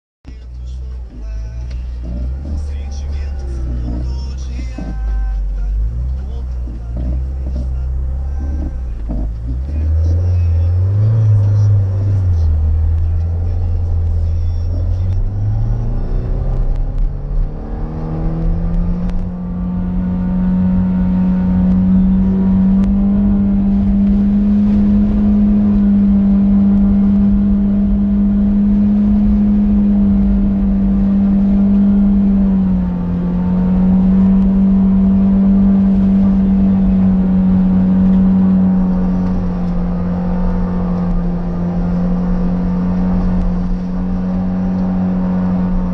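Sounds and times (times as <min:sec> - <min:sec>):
car engine revving: 0:00.3 - 0:45.9.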